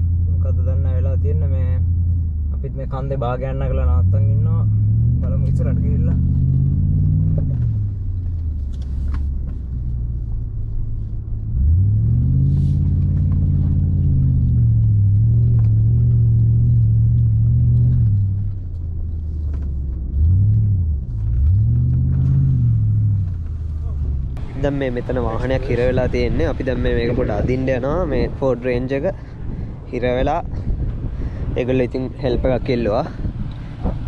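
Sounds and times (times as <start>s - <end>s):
off-road engine revving: 0.0s - 8.0s, 11.5s - 34.0s.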